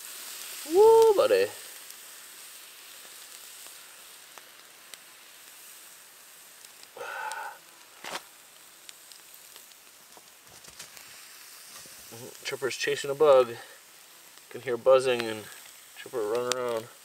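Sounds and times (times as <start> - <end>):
bacon sizzling: 0.0 - 17.0
crackles and pops: 0.0 - 17.0.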